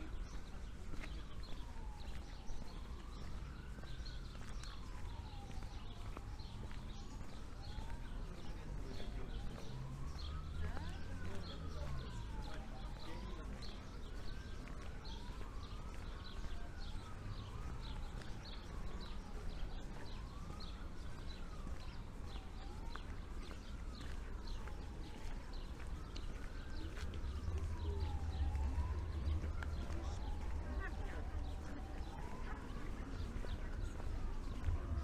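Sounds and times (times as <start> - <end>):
emergency siren wailing: 0.0 - 35.0
low street rumble: 0.0 - 35.0.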